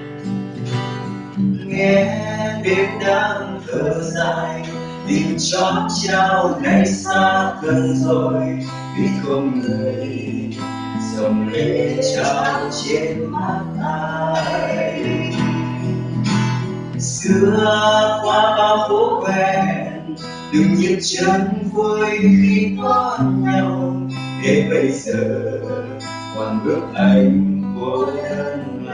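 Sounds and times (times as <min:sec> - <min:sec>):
acoustic guitar strumming: 0:00.0 - 0:28.9
person singing a ballad: 0:01.6 - 0:16.3, 0:16.9 - 0:28.9.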